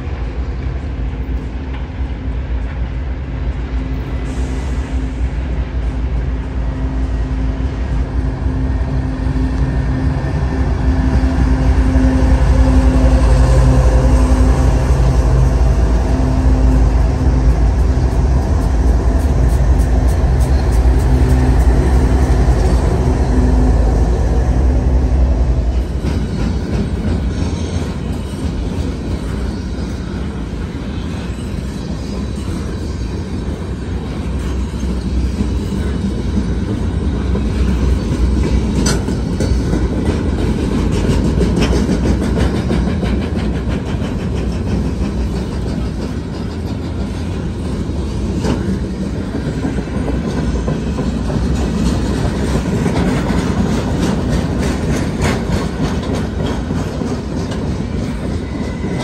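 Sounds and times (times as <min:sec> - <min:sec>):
diesel locomotive engines: 0:00.0 - 0:59.0
train wheels rumbling on rails: 0:00.0 - 0:59.0.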